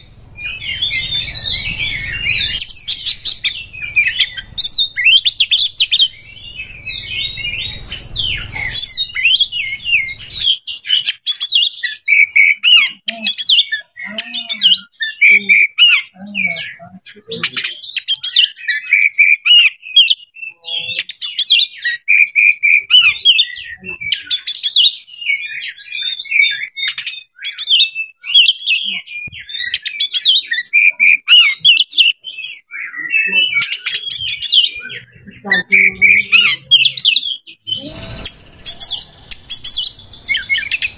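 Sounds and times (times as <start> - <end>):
bird singing varied song: 0.0 - 40.9.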